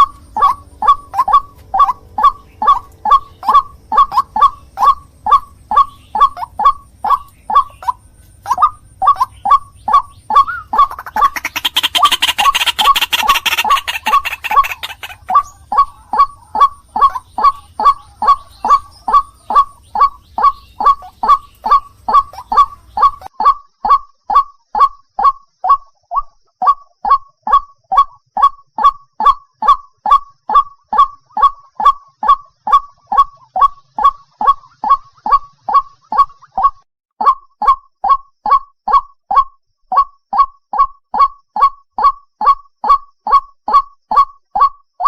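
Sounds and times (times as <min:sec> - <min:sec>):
waterhen repeated call: 0:00.0 - 0:44.8.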